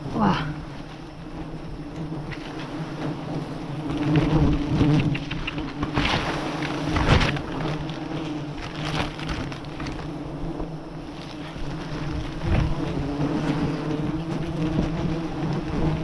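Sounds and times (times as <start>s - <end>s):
bees buzzing: 0.0s - 16.0s
rustling: 0.0s - 16.0s.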